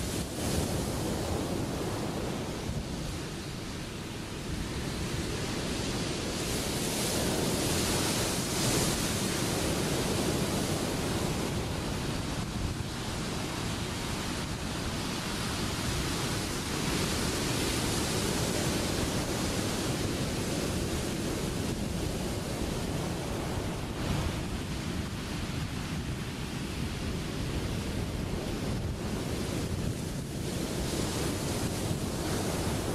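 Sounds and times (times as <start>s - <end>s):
ocean surf breaking: 0.0s - 32.9s
wind on microphone: 0.0s - 32.9s.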